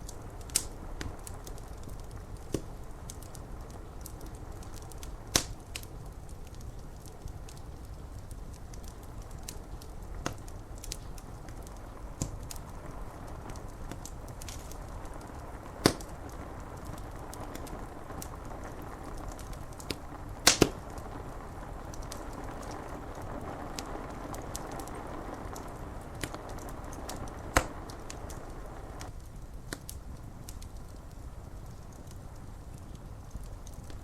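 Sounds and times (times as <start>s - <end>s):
rain on window glass: 0.0s - 34.0s
wood fire crackling and popping: 0.0s - 34.0s.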